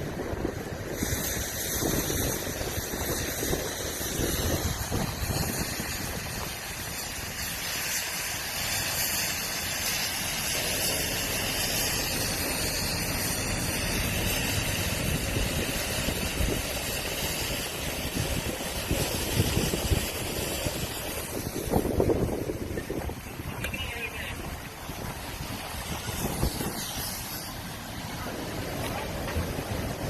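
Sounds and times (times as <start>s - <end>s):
steady hiss: 0.0s - 30.0s
wind buffeting microphone: 0.0s - 30.0s.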